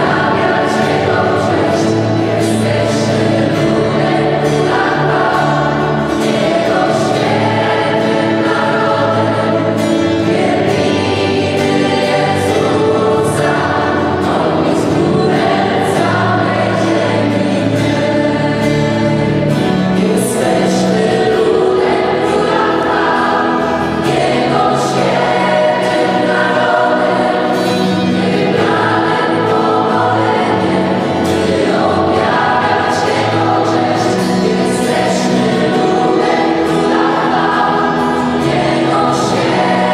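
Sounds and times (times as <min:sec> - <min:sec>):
choir singing gospel song: 0:00.0 - 0:39.9.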